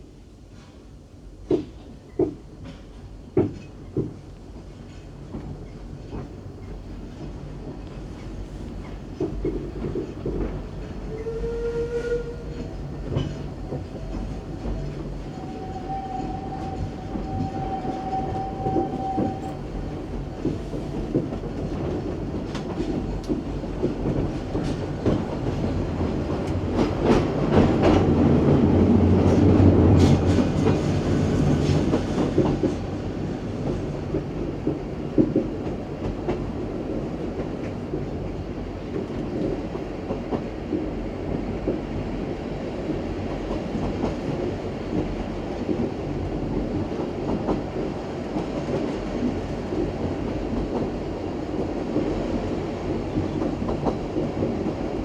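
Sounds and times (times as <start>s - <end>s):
train wheels clacking on rails: 1.4s - 55.0s.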